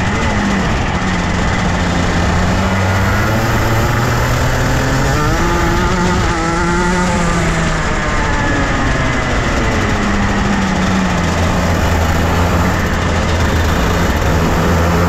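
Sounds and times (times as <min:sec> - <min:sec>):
kart engine at speed: 0:00.0 - 0:15.0.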